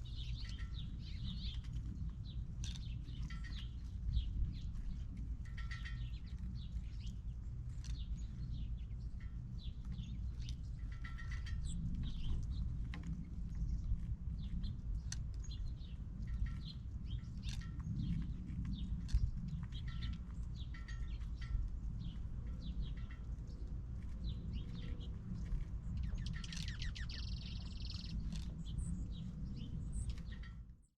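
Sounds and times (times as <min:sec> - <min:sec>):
small birds chirping: 0:00.0 - 0:30.8
steady low rumble: 0:00.0 - 0:30.9.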